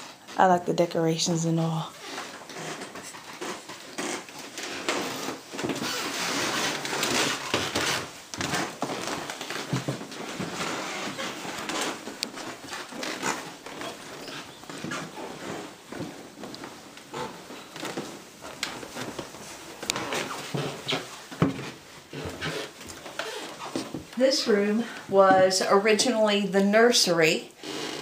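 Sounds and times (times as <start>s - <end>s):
footsteps: 1.8s - 26.2s
rustling handling noise: 1.9s - 26.0s.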